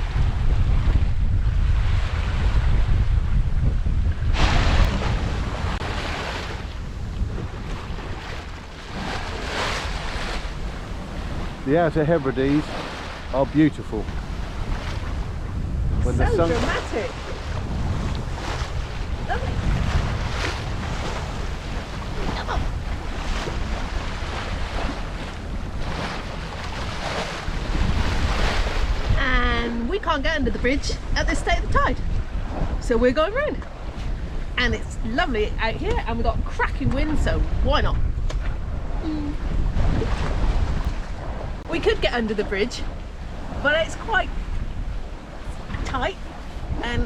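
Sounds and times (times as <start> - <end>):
water rushing along a hull: 0.0 - 47.0
wind buffeting microphone: 0.0 - 47.0.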